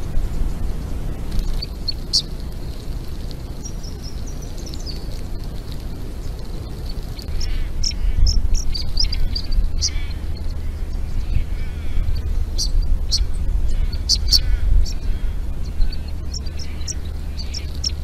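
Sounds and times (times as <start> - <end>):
loud low microphone rumble: 0.0 - 18.0
small birds chirping and trilling: 0.0 - 18.0.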